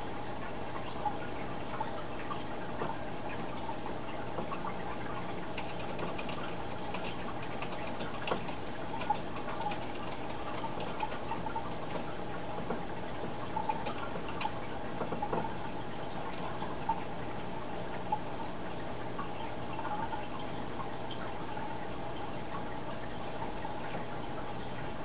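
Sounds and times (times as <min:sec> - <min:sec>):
aquarium filter water hiss: 0:00.0 - 0:25.0.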